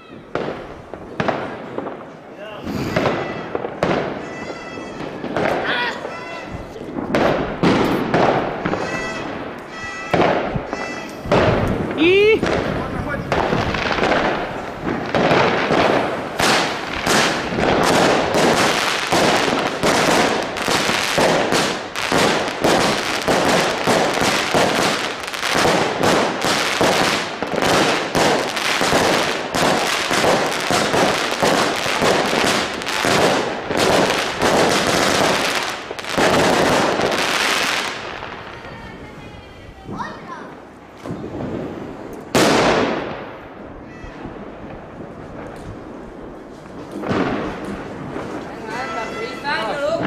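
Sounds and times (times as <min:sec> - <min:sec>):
fireworks shots and crackling bursts: 0:00.0 - 0:50.0.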